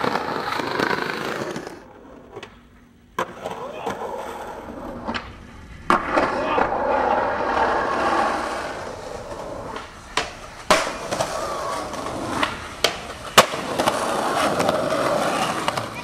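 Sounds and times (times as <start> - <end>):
skateboard clacking on ground: 0.0 - 16.0
skateboard wheels rolling on pavement: 0.0 - 16.0.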